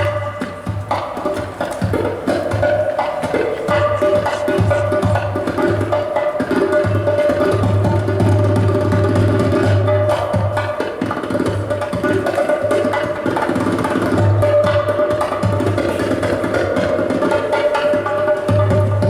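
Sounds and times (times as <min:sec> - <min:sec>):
hand percussion: 0:00.0 - 0:19.0
live band playing: 0:00.0 - 0:19.0.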